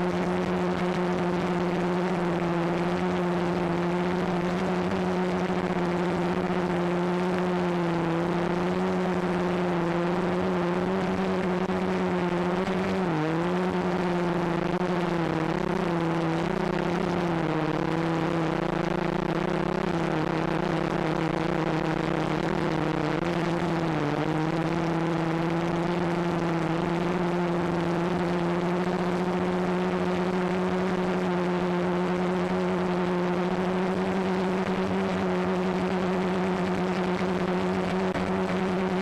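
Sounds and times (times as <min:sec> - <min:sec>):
drone motors humming: 0:00.0 - 0:39.0.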